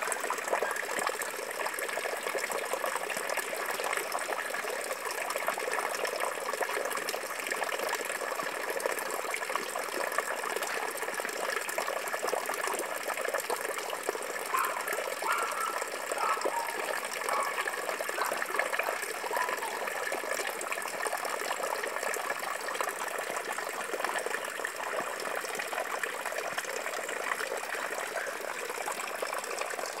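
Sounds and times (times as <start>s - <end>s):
water splashing and bubbling: 0.0s - 30.0s.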